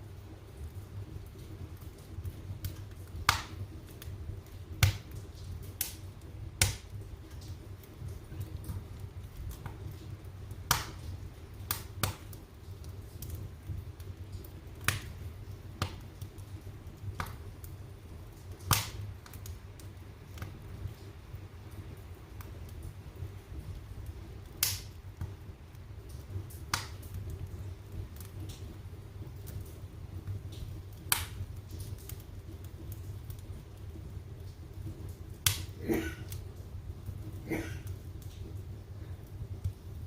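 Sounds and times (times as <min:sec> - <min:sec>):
low steady fire rumble: 0:00.0 - 0:40.0
wood fire crackling and popping: 0:00.0 - 0:40.0.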